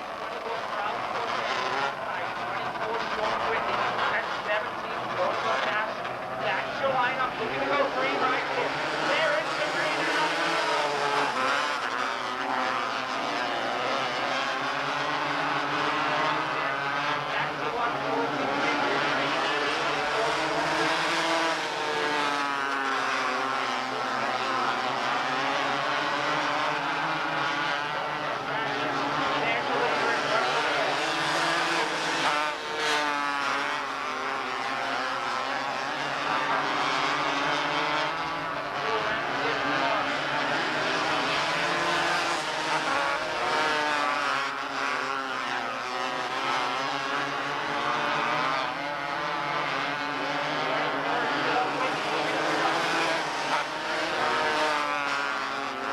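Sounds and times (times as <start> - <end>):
race car engines: 0.0 - 55.9.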